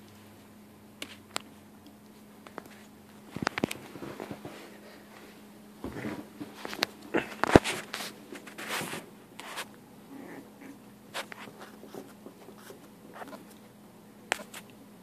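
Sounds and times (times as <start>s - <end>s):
puppies playing on carpet: 0.0s - 14.8s
faint steady hum: 0.0s - 15.0s.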